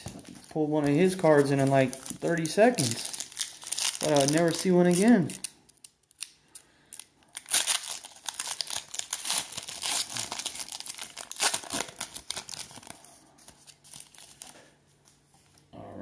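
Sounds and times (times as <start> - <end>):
foil wrapper crinkling and tearing: 0.0 - 14.7.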